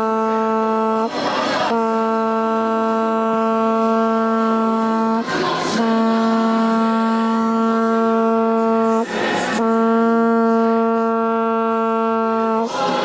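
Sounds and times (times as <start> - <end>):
wooden horn held notes: 0.0 - 13.0.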